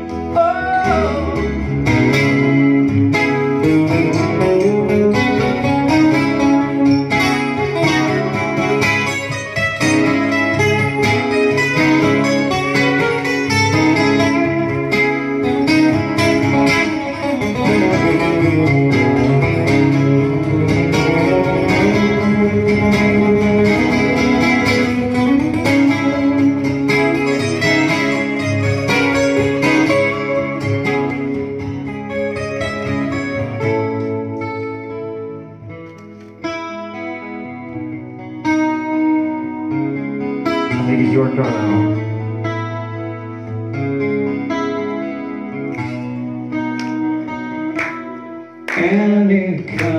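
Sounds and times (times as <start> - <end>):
acoustic guitars playing: 0.0 - 49.9.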